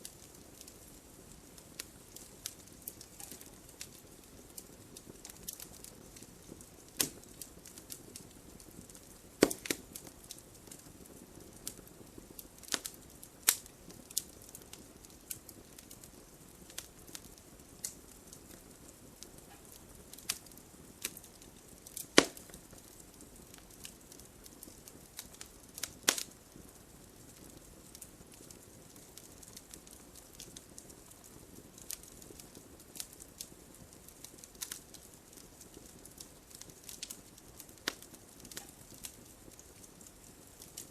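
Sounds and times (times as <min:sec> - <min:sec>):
burning logs popping: 0:00.0 - 0:40.9
low hiss of flame: 0:00.0 - 0:40.9
wood fire crackling: 0:00.0 - 0:40.9.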